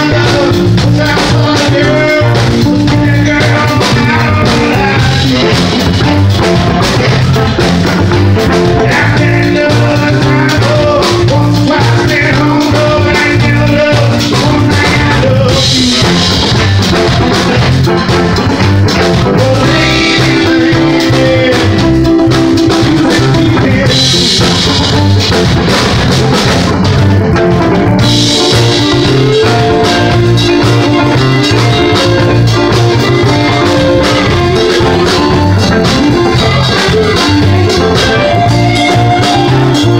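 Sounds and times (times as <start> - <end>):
person singing: 0.0 - 25.4, 28.0 - 39.9
drum kit: 0.0 - 39.9
electric guitar: 0.0 - 39.9.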